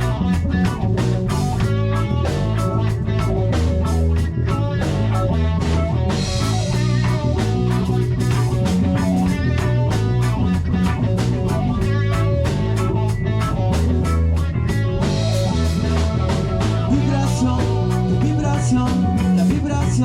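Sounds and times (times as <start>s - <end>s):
band playing instrumental: 0.0s - 20.0s.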